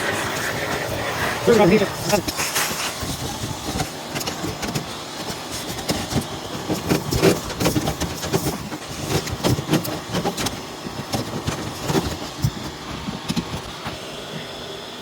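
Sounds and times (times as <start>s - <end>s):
vacuum cleaner sucking: 0.0s - 15.0s.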